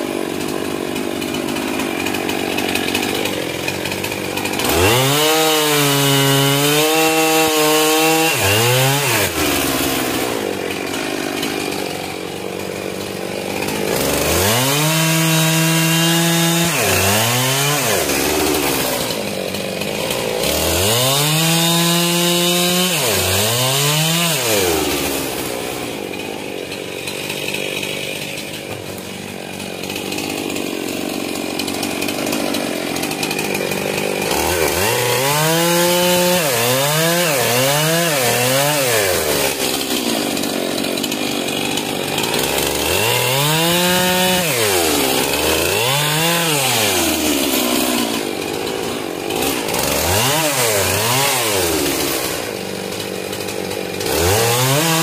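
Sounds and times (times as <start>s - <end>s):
chainsaw cutting wood: 0.0s - 55.0s
chainsaw revving: 0.0s - 55.0s.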